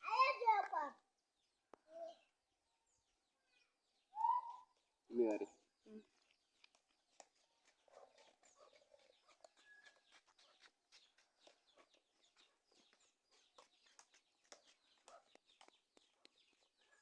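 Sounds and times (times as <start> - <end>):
faint bird chirps and clucks: 0.1 - 17.0.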